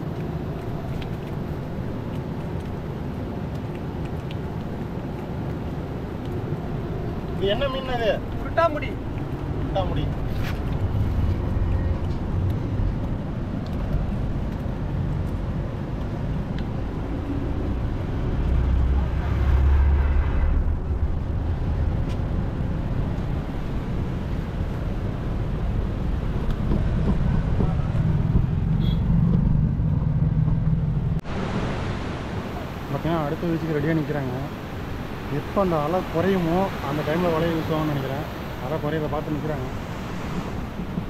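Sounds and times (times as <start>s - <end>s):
floodwater rushing: 0.0s - 29.8s, 31.1s - 41.0s
vehicles passing on bridge: 0.0s - 41.0s.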